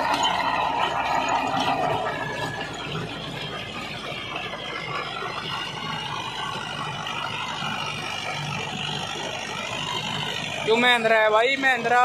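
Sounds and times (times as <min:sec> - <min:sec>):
rotavator blades churning soil: 0:00.0 - 0:12.0
tractor diesel engine running: 0:00.0 - 0:12.0.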